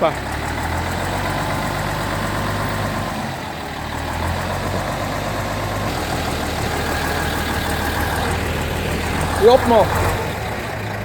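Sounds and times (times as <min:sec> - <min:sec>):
truck engine idling roughly: 0:00.0 - 0:11.0.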